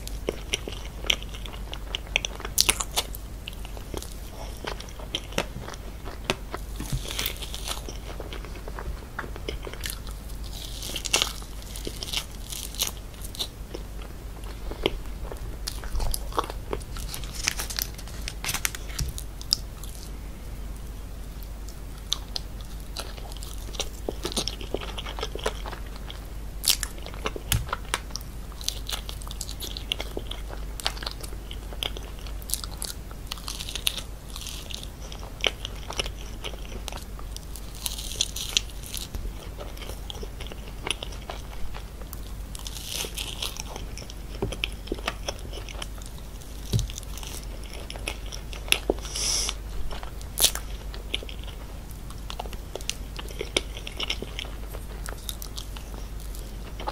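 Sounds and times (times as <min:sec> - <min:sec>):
cake crunching while chewing: 0:00.0 - 0:20.2, 0:22.0 - 0:56.9.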